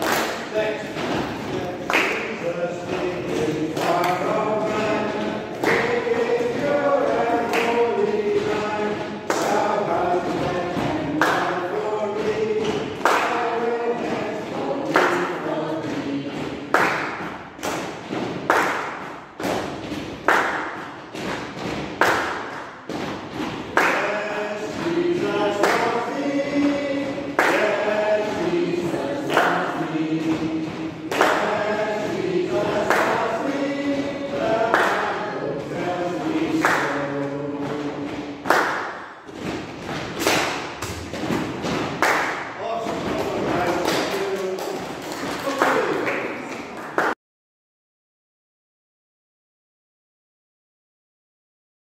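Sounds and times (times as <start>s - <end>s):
group singing unaccompanied: 0.0s - 17.8s, 20.4s - 45.0s
loud rhythmic thumps: 0.0s - 46.8s.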